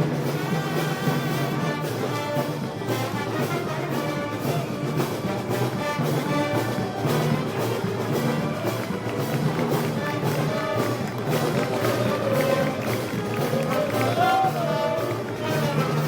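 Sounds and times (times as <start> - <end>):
brass band march music: 0.0 - 16.0
steady drum beat: 0.0 - 16.0.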